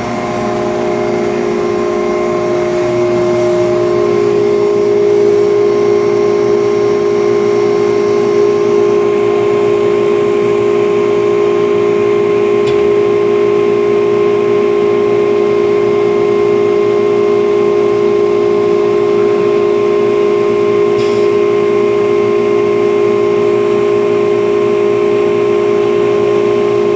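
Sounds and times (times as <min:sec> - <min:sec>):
cnc router whine: 0:00.0 - 0:26.9
constant machine hum: 0:00.0 - 0:26.9.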